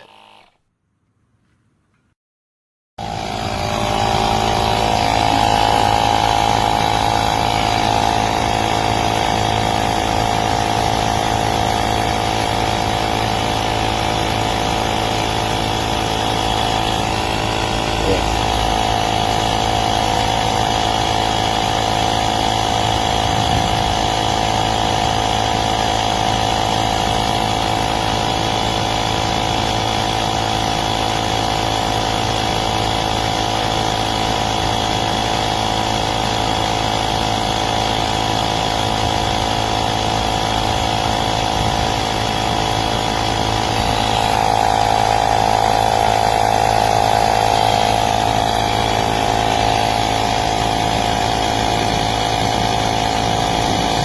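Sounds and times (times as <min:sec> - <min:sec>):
tire inflator compressor buzzing: 0:00.0 - 0:00.7, 0:03.0 - 0:54.0.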